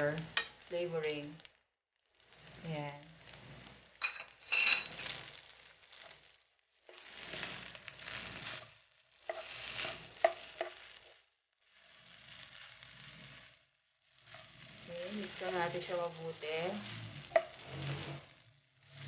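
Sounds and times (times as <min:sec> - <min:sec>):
spatula scraping rice in pan: 0:00.1 - 0:01.2, 0:02.2 - 0:19.0.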